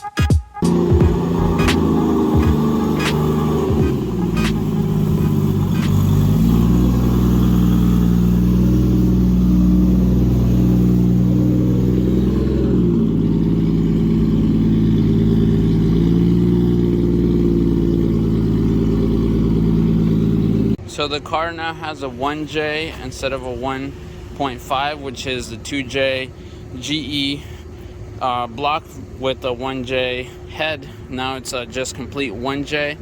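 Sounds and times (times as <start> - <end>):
car engine running: 0.6 - 33.0.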